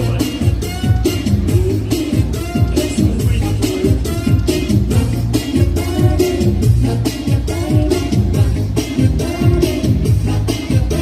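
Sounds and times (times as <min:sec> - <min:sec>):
upbeat pop dance music: 0:00.0 - 0:11.0.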